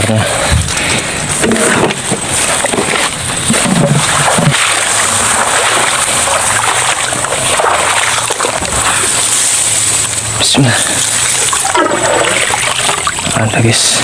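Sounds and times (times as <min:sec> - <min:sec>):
grass rustling: 0:00.0 - 0:13.6
water splashing and sloshing: 0:00.0 - 0:14.0.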